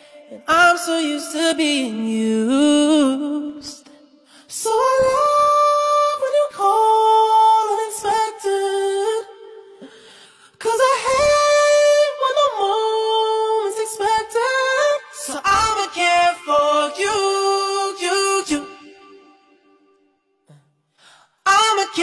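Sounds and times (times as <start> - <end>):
sung vocal holding long notes: 0.0 - 19.6, 21.5 - 22.0.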